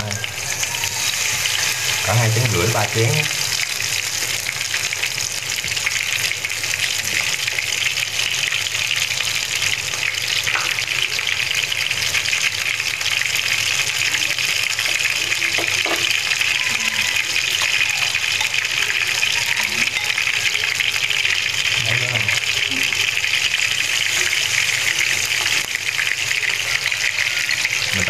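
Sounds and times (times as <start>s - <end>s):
fritters sizzling in hot oil: 0.0s - 28.0s.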